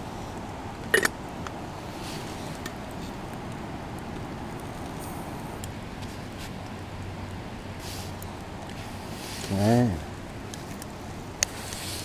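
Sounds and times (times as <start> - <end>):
campfire crackling: 0.0 - 12.0
fire low rush: 0.0 - 12.0.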